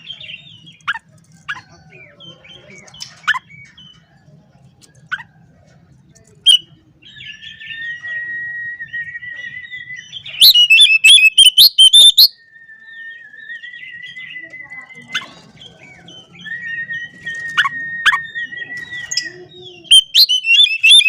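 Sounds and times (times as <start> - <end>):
bird singing: 0.0 - 5.6, 6.2 - 21.0.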